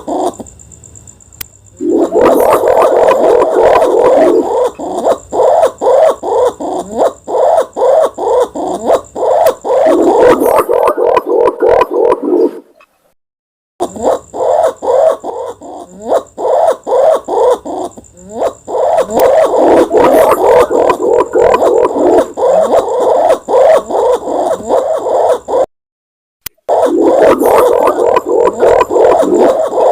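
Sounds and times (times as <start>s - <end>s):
pigeon cooing: 0.0s - 0.5s, 1.8s - 12.7s, 13.8s - 25.7s, 26.6s - 29.9s.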